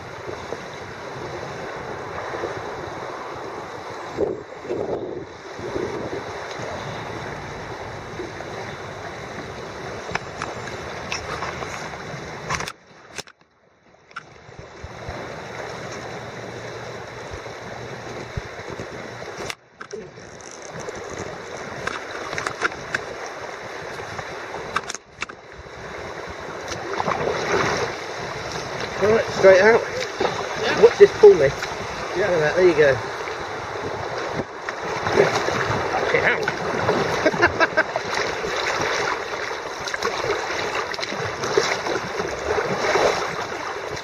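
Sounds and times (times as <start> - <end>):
floodwater rushing: 0.0 - 13.2, 14.3 - 44.0
paddle splashes: 0.0 - 13.4, 14.1 - 44.0.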